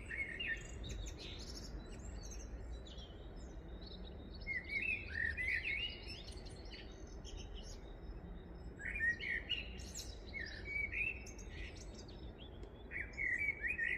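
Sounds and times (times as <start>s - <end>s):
birds chirping and singing: 0.0s - 13.9s.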